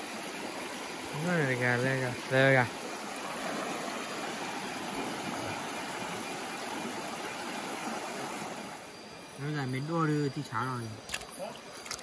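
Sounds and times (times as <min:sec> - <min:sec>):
water rushing in rocky stream: 0:00.0 - 0:09.0, 0:10.5 - 0:12.0.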